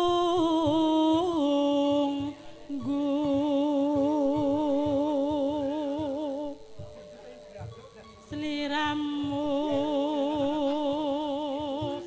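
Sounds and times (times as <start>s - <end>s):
woman singing with vibrato: 0.0s - 7.0s, 8.2s - 12.0s
soft low beats: 0.0s - 12.0s.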